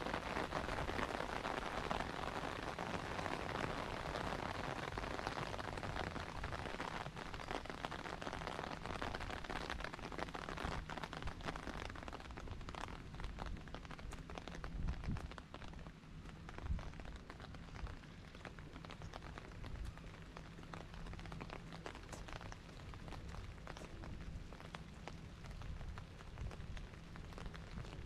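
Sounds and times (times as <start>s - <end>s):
raindrops ticking: 0.0s - 28.0s
steady rain hiss: 0.0s - 28.0s.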